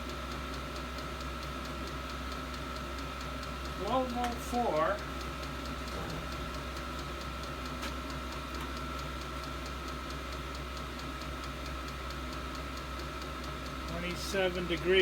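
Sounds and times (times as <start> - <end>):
diesel heater humming: 0.0 - 15.0
fast ticking: 0.5 - 15.0.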